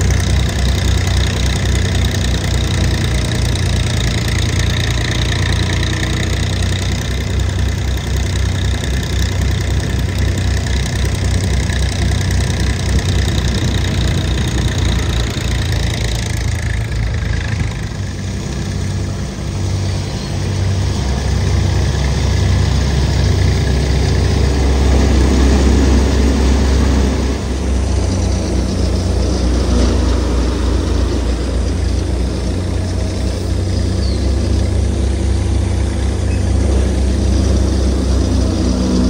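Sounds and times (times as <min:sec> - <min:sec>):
thresher engine and drum droning: 0:00.0 - 0:39.0.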